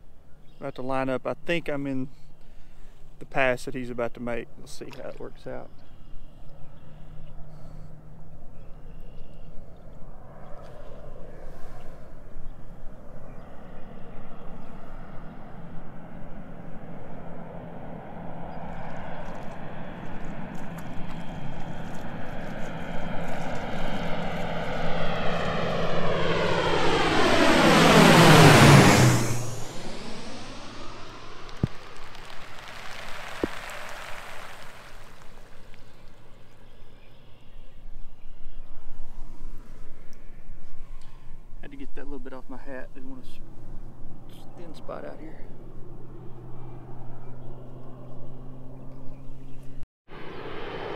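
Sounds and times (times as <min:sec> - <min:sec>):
airplane engine drone: 0:00.0 - 0:50.9.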